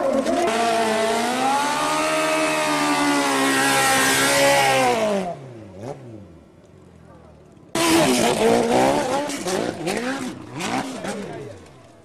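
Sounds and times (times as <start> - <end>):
motorcycle engine revving: 0.0 - 6.4, 7.7 - 12.0.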